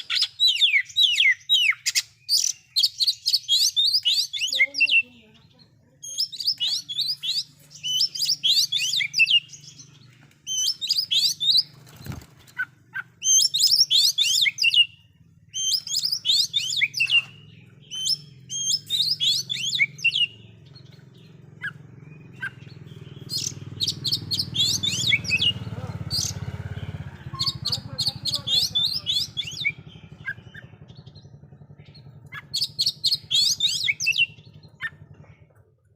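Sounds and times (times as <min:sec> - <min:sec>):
songbird chirps and whistles: 0:00.0 - 0:05.1, 0:06.1 - 0:26.4, 0:27.2 - 0:35.0.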